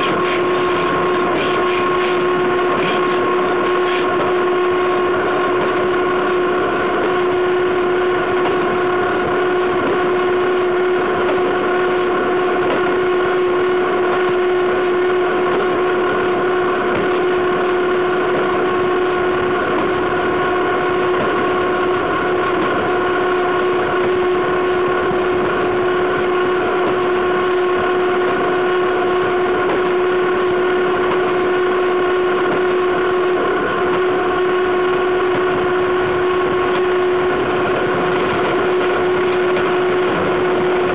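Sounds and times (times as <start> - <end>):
constant whine: 0.0 - 40.9.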